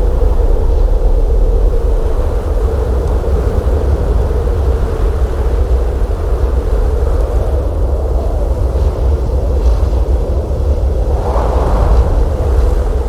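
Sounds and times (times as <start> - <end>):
blizzard wind howling: 0.0 - 13.0.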